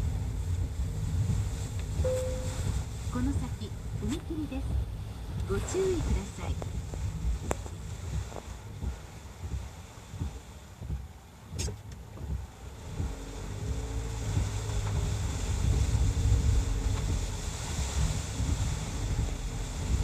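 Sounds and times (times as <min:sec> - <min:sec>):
engine and road rumble: 0:00.0 - 0:20.0
tyres hissing on wet road: 0:00.0 - 0:20.0.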